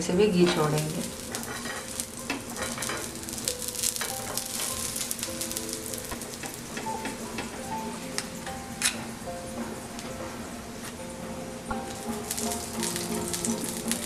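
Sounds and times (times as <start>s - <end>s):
faint background music: 0.0s - 14.0s
ghee sizzling on hot griddle: 0.0s - 14.0s.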